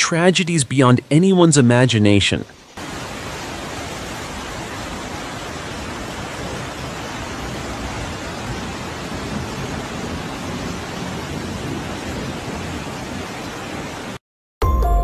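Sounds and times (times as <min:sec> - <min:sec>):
heavy rain falling: 0:00.0 - 0:14.2.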